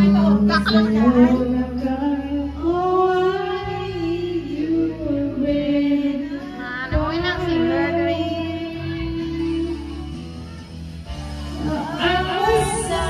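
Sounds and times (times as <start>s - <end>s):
karaoke backing track: 0.0s - 13.0s
woman singing karaoke: 0.0s - 13.0s.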